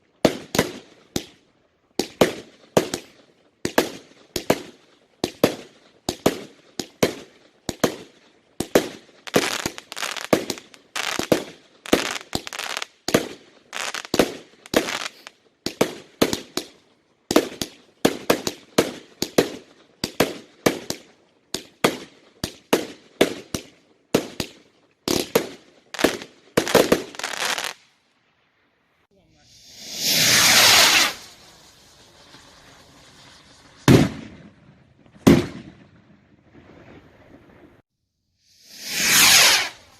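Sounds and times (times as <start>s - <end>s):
fireworks crackling: 0.0s - 37.8s, 38.4s - 39.9s
fireworks banging: 0.2s - 27.8s, 29.2s - 37.7s, 38.7s - 39.9s.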